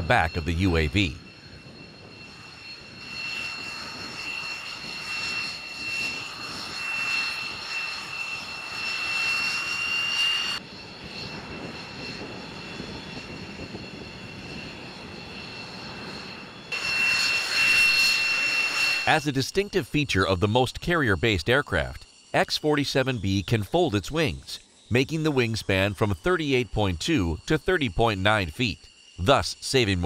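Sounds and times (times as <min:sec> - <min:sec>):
jet engine high whine: 0:00.0 - 0:30.0
jet engine rushing hiss: 0:00.0 - 0:30.0.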